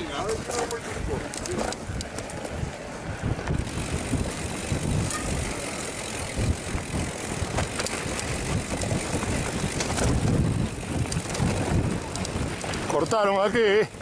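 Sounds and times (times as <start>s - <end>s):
bike clicking and rattling: 0.0s - 14.0s
bike tyres rumbling over stones: 0.0s - 14.0s.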